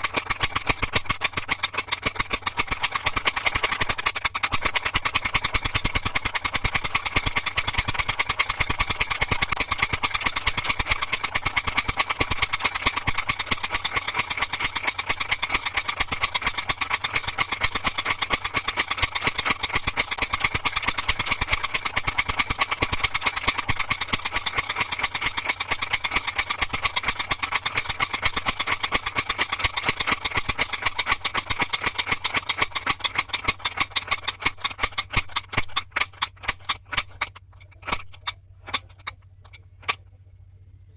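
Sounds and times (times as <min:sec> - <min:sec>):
small motor rattling: 0:00.0 - 0:40.2.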